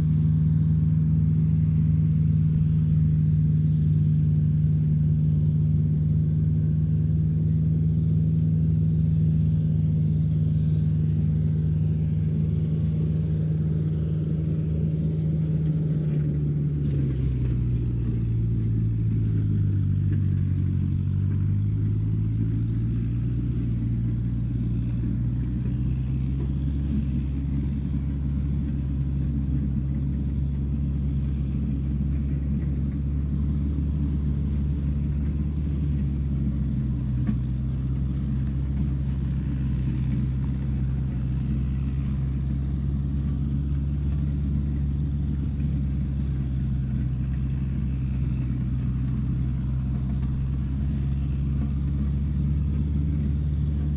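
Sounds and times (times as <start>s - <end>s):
tractor engine rumbling: 0.0s - 53.9s.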